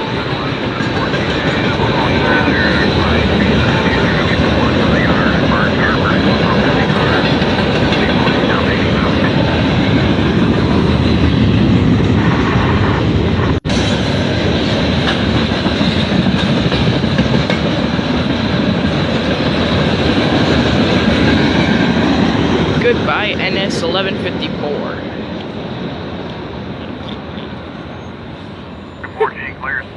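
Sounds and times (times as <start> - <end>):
freight train wheels on rail: 0.0 - 29.9.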